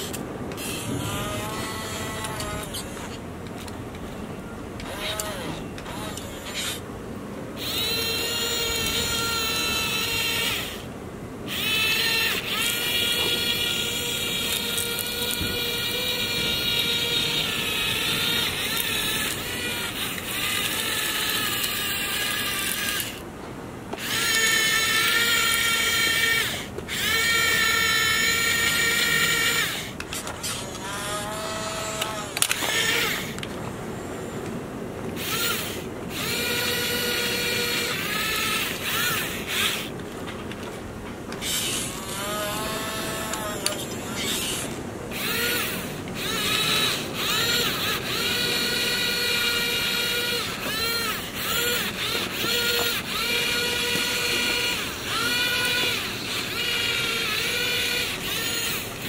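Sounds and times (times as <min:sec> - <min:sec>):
toy electric motors whining: 0:00.0 - 0:04.1, 0:04.8 - 0:06.9, 0:07.6 - 0:23.3, 0:23.9 - 0:33.5, 0:35.2 - 0:40.7, 0:41.3 - 0:59.0.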